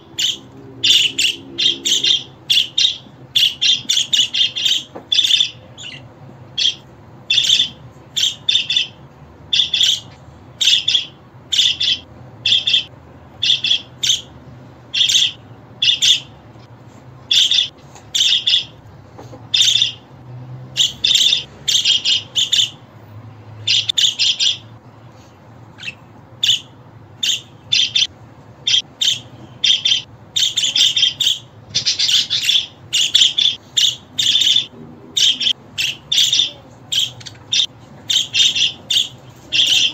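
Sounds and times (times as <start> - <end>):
budgerigar chirping: 0.1 - 14.3, 14.9 - 16.3, 17.3 - 18.8, 19.5 - 20.0, 20.8 - 22.8, 23.6 - 24.7, 25.8 - 39.9.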